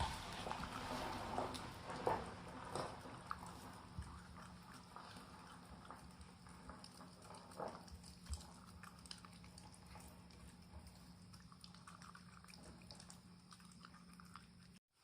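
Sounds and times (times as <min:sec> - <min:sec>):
dog chewing and licking: 0:00.0 - 0:15.0
low room hum: 0:00.0 - 0:15.0.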